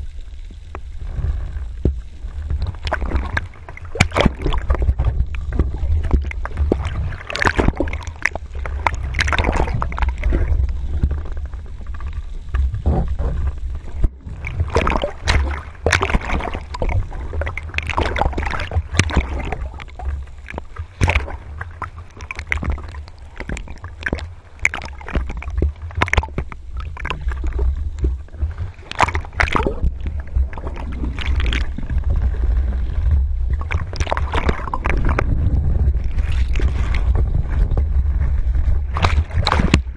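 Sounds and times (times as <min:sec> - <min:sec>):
bubbles gurgling and crackling: 0:00.0 - 0:39.9
deep underwater rumble: 0:00.0 - 0:39.9.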